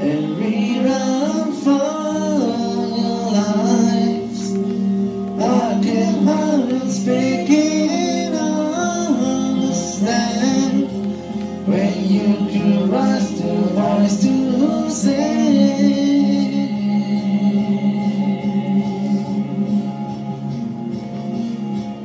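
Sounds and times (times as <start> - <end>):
man singing into a microphone: 0.0 - 4.8, 5.4 - 11.0, 11.6 - 19.9
backing chords: 0.0 - 22.0.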